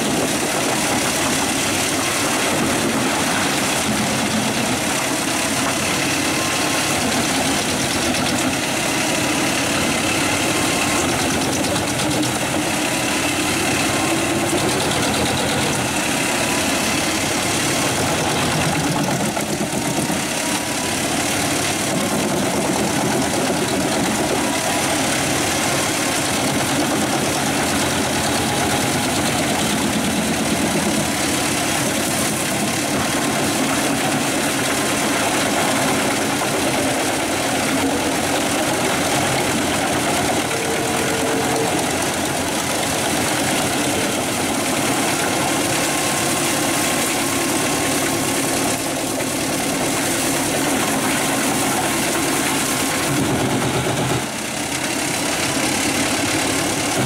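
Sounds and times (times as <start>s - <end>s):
machine engine running: 0.0s - 57.0s.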